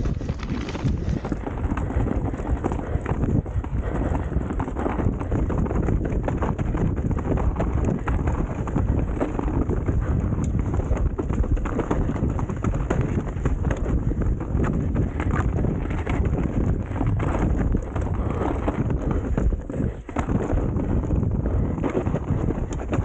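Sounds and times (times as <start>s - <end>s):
bike knocks and rattles: 0.0s - 23.0s
tyre and wind noise: 0.0s - 23.0s.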